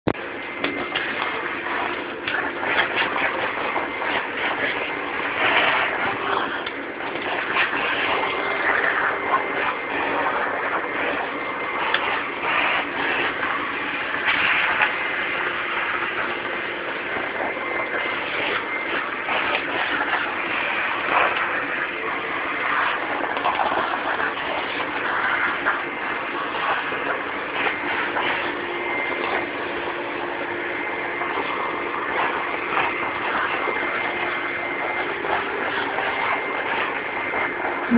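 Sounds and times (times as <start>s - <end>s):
vacuum cleaner running: 0.1s - 37.9s.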